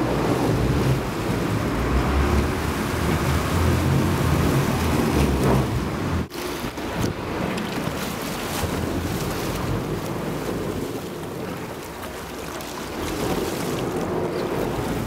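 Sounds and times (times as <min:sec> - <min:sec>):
sea water splashing: 0:00.0 - 0:15.0
wind buffeting microphone: 0:00.0 - 0:15.0.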